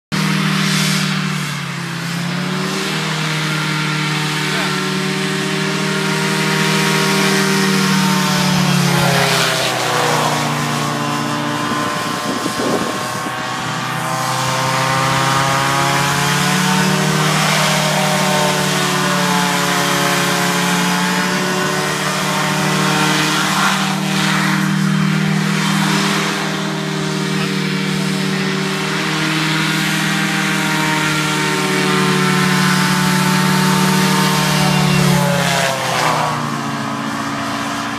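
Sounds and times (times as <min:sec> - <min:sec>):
hovercraft engine and fan running: 0:00.1 - 0:37.9.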